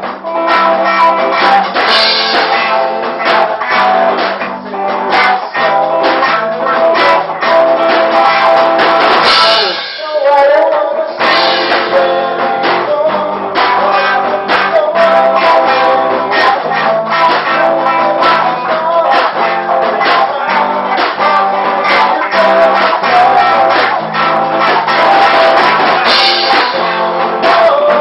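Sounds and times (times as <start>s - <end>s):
bass guitar: 0.0s - 28.0s
drum kit beat: 0.0s - 28.0s
electric guitars: 0.0s - 28.0s.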